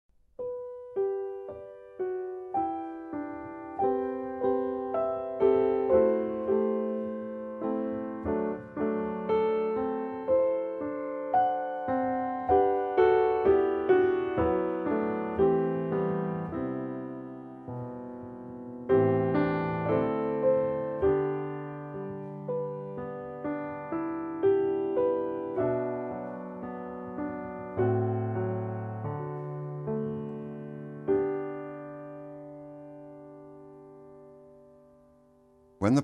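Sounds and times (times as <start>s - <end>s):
solo piano melody: 0.2s - 36.0s.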